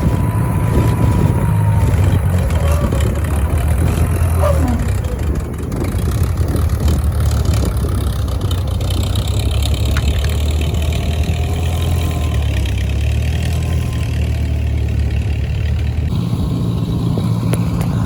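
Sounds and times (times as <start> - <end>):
engine running and missing: 0.0 - 18.0.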